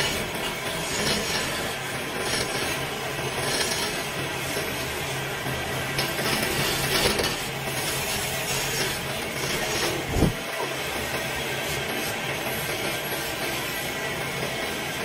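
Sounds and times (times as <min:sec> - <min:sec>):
hiss of spinning wood being cut: 0:00.0 - 0:15.0
wood lathe motor humming: 0:00.0 - 0:15.0.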